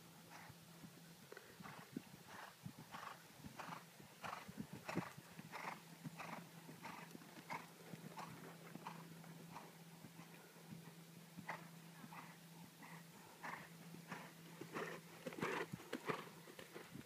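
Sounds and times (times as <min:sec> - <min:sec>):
horse breathing rhythmically: 0:00.3 - 0:00.6, 0:01.3 - 0:17.0
horse hoofbeats on sand: 0:01.6 - 0:17.0.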